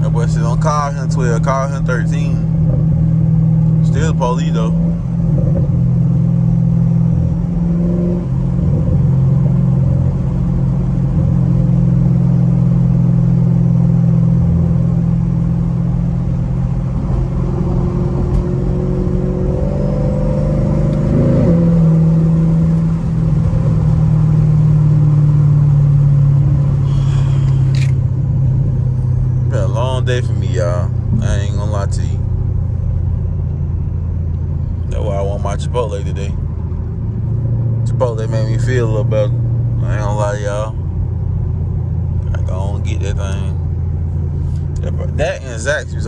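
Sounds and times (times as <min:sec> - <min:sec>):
car exhaust droning: 0:00.0 - 0:46.0.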